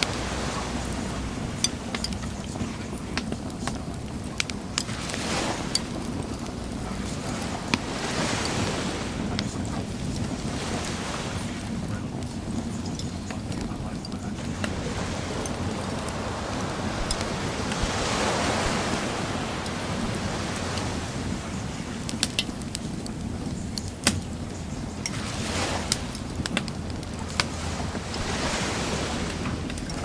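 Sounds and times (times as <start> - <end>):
bonfire crackling and popping: 0.0 - 30.0
sea waves washing onto shore: 0.0 - 30.0.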